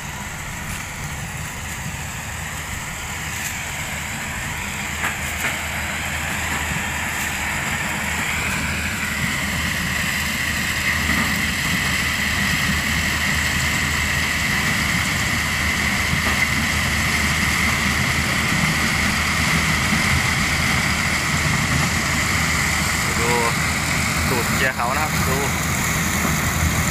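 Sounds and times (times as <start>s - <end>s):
combine harvester engine rumble: 0.0s - 26.9s
high machine whine: 0.0s - 26.9s.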